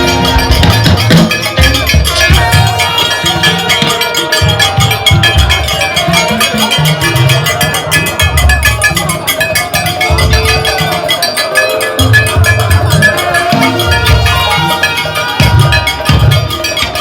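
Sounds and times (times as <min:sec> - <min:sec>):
upbeat music with drum beat: 0:00.0 - 0:17.0.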